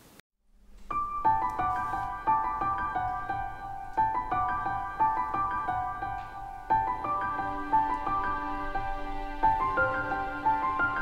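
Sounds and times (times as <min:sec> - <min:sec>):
piano notes ringing: 0:00.5 - 0:11.0.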